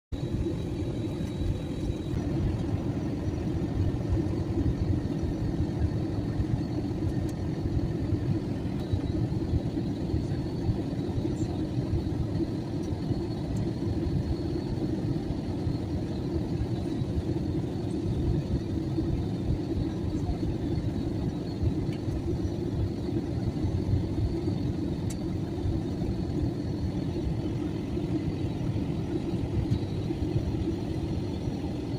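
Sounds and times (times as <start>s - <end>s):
airplane cabin drone: 0.1s - 31.9s.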